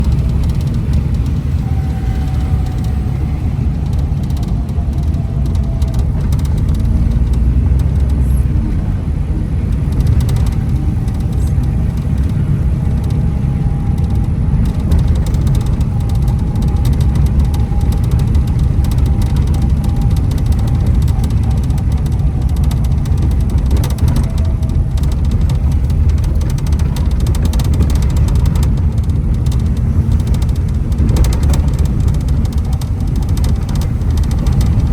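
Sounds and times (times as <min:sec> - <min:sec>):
traffic rumble: 0:00.0 - 0:34.9.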